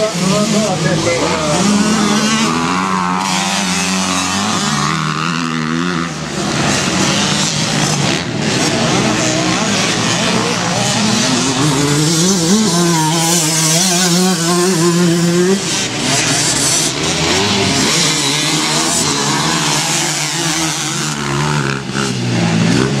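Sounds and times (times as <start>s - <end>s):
motocross motorcycle engines revving: 0.0s - 23.0s.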